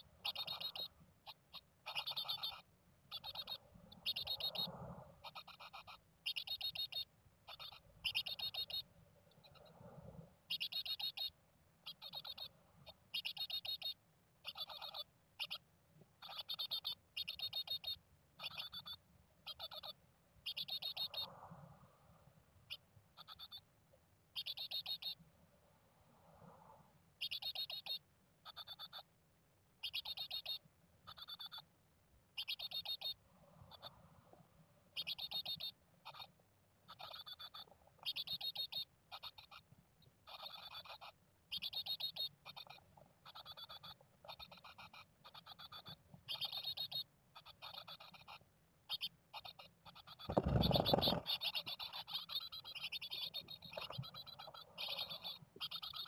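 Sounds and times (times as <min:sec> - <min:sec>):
nestlings chirping: 0:00.0 - 0:09.7, 0:10.5 - 0:15.6, 0:16.2 - 0:21.3, 0:22.7 - 0:23.6, 0:24.4 - 0:25.2, 0:27.2 - 0:29.1, 0:29.8 - 0:31.7, 0:32.4 - 0:34.0, 0:35.0 - 0:56.0.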